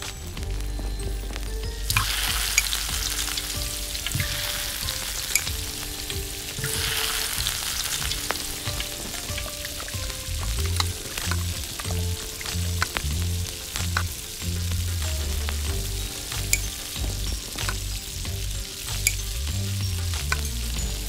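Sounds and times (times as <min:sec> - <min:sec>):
eggs sizzling in hot oil: 0:00.0 - 0:21.0.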